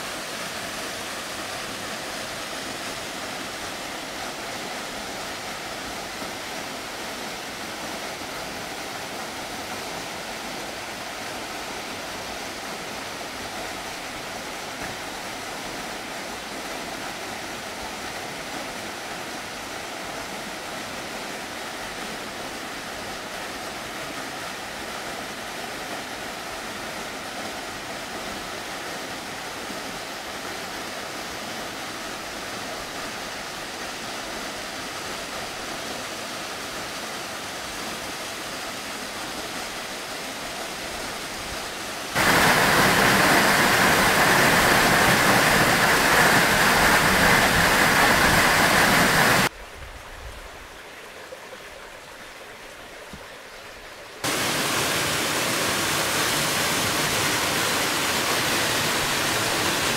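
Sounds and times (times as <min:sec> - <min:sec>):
waterfall rushing over rock: 0:00.0 - 0:49.5, 0:54.2 - 0:59.9.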